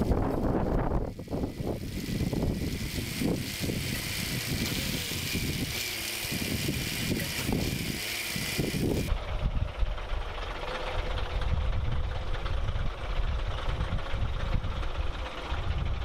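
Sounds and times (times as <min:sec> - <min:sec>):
diesel truck engine pulsing: 0:00.0 - 0:16.0.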